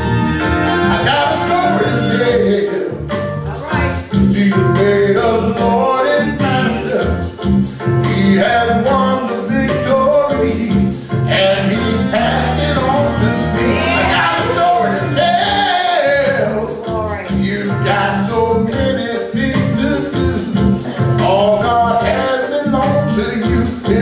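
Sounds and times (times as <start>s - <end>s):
gospel song over backing beat: 0.0s - 24.0s
man singing: 0.6s - 3.2s, 4.2s - 24.0s.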